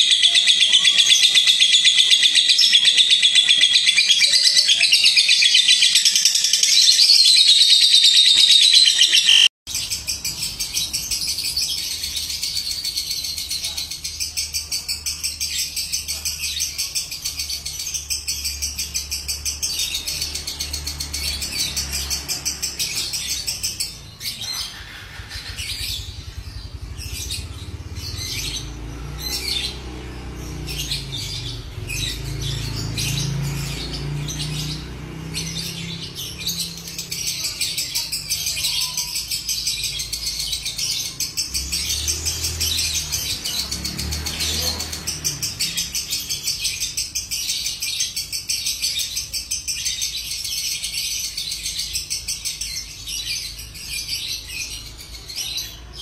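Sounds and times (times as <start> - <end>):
lovebird rapid chattering call: 0.0 - 55.7.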